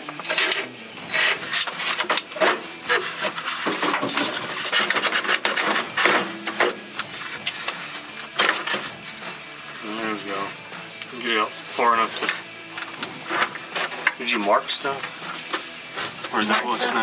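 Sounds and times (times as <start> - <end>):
scraping and rubbing of plastic parts: 0.0 - 11.0, 11.8 - 17.0.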